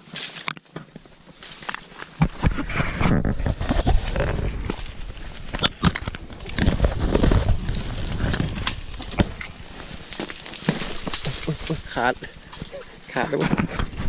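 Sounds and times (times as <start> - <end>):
crackles and snaps underfoot: 0.0 - 14.0
footsteps on a trail: 0.0 - 14.0.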